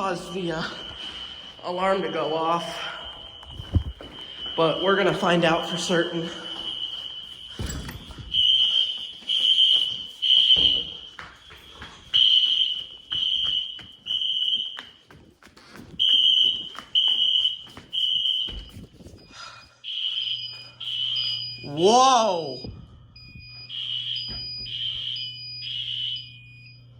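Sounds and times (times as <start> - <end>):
fire alarm beeping: 0.0 - 26.9.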